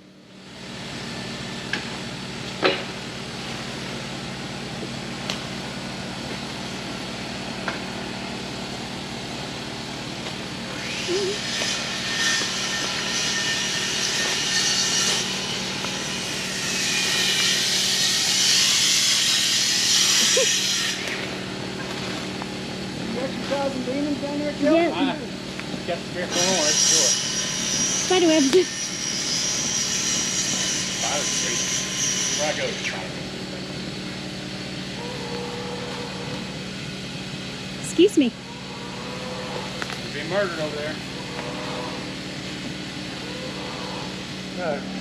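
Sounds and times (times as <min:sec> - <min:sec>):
small engine humming: 0:00.0 - 0:31.6, 0:32.3 - 0:45.0.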